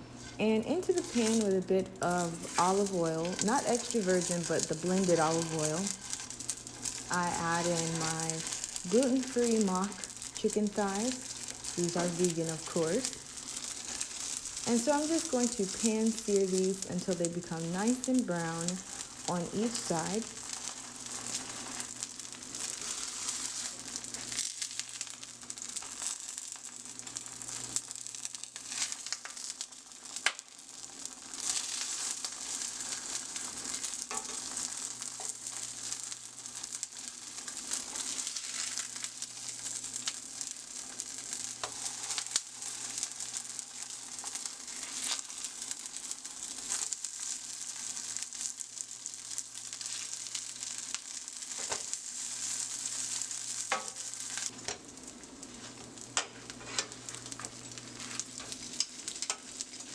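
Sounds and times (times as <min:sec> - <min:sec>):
frying sizzle in a pan: 0:00.0 - 0:59.9
oil popping and crackling: 0:00.8 - 0:59.9.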